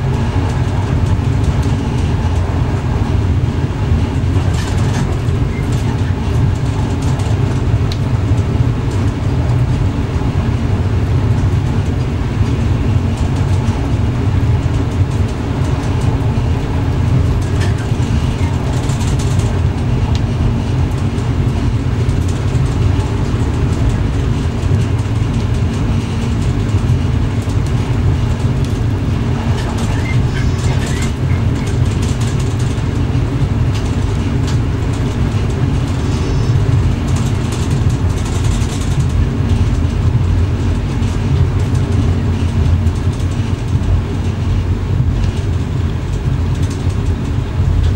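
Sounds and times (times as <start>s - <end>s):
electric train running rumble: 0.0s - 47.9s.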